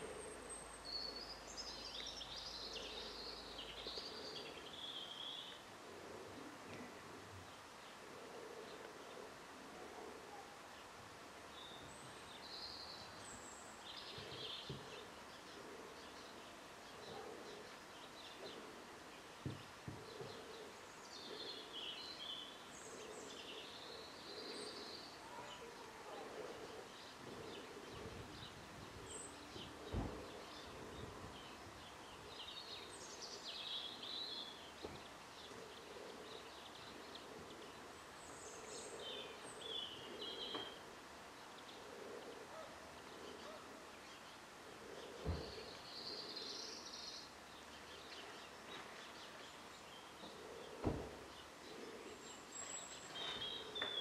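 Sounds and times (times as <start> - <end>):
faint birdsong: 0.0 - 54.0.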